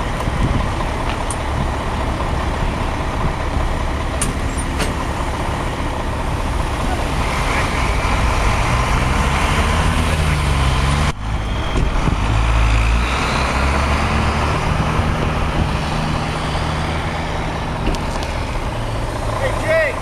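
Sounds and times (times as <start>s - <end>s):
traffic noise: 0.0s - 20.0s
truck engine idling: 0.0s - 20.0s.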